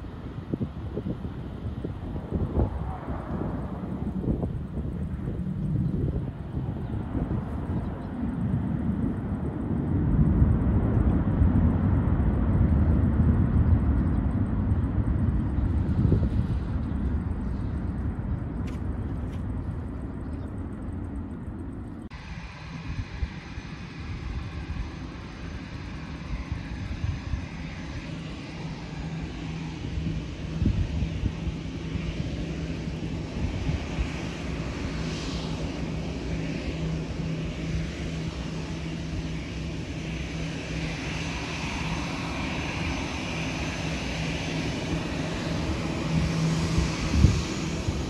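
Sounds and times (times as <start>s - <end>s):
jet engines idling: 0.0s - 48.0s
wind rumble on microphone: 0.0s - 48.0s.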